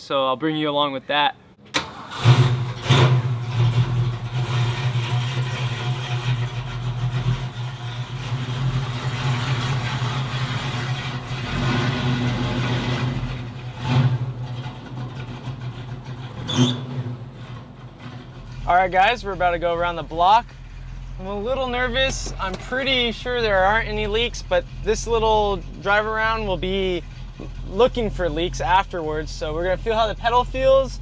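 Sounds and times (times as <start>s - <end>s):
car engine idling and revving: 1.8s - 31.0s.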